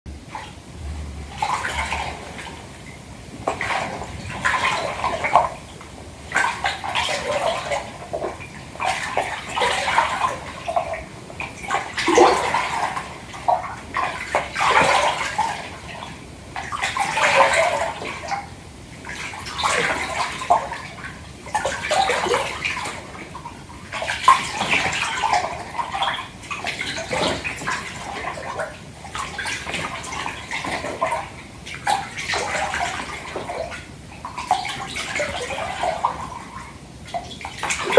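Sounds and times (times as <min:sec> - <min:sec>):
bath water sloshing in a tub: 0:00.1 - 0:37.9.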